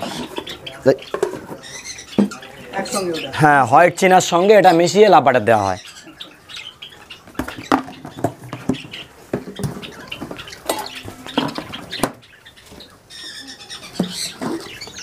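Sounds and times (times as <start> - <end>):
caged birds squawking and chirping: 0.0 - 15.0.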